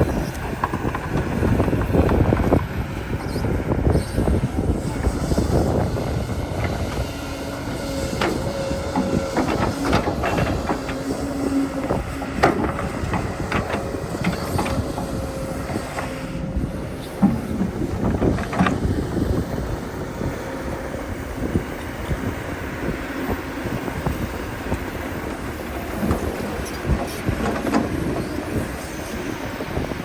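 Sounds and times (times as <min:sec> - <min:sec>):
digging machine running: 0:00.0 - 0:30.0.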